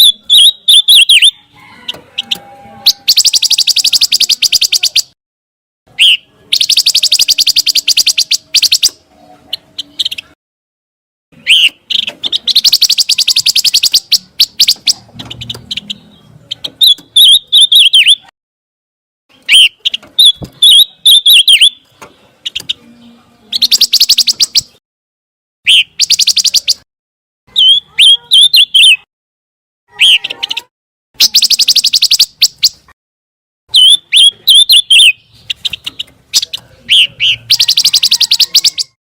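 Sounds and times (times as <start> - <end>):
bird singing trills and whistles: 0.0 - 1.4, 2.2 - 5.2, 5.9 - 10.4, 11.4 - 18.3, 19.3 - 24.8, 25.7 - 26.8, 27.5 - 29.1, 29.9 - 32.9, 33.7 - 39.0.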